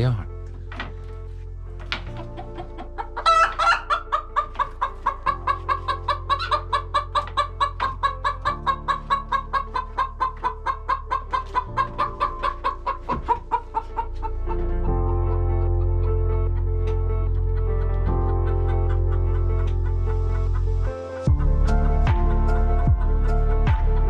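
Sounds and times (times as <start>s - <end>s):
hens clucking: 1.8s - 15.1s, 16.0s - 23.4s.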